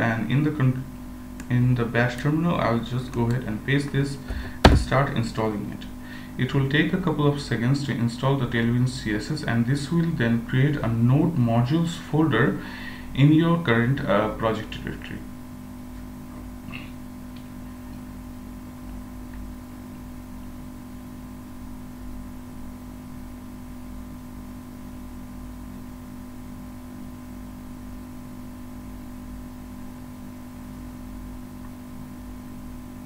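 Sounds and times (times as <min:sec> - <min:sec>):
room tone hum and hiss: 0:00.0 - 0:33.0.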